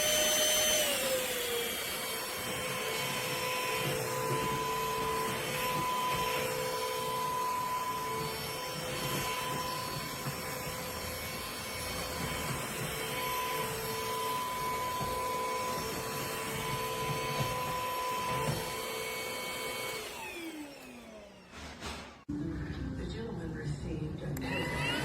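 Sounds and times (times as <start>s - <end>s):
stick vacuum motor whine: 0.0s - 22.3s, 24.4s - 25.0s.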